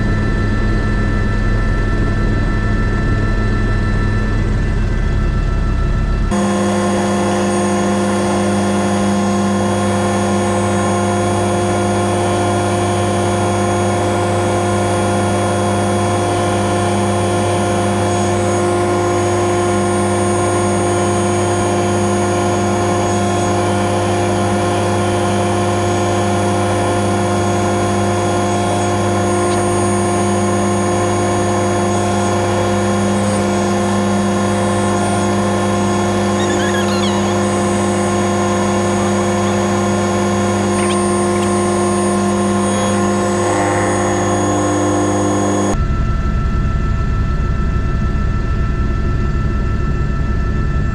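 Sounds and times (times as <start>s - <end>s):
helicopter engine and rotors: 0.0s - 50.8s.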